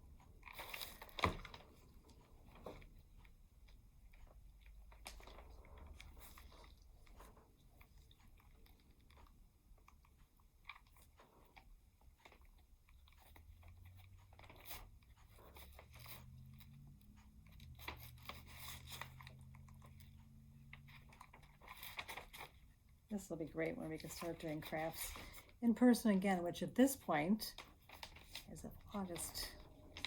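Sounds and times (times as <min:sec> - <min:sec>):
handling clicks and crinkles: 0:00.0 - 0:30.0
low steady hum: 0:00.0 - 0:30.0.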